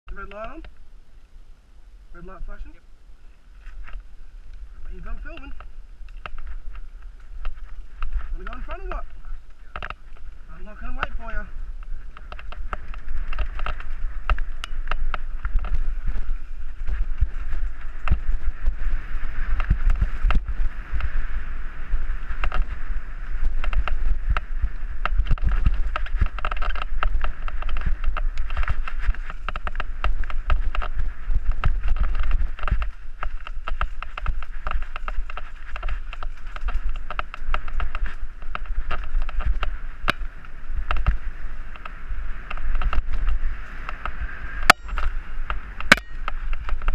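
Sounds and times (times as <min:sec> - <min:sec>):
wind buffeting microphone: 0:00.1 - 0:46.9
tyre noise on dirt: 0:03.4 - 0:46.9
bike rattles and knocks: 0:04.9 - 0:46.9.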